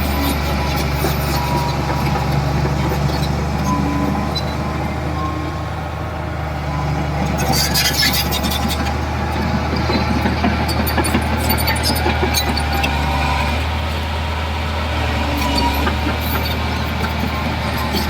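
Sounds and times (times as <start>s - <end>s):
bulldozer diesel engine humming: 0.0s - 18.0s.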